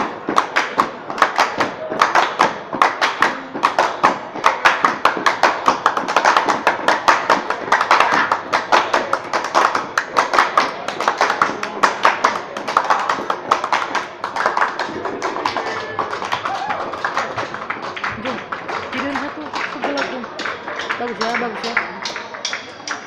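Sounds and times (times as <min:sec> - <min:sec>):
hand claps and body slaps: 0:00.0 - 0:23.0.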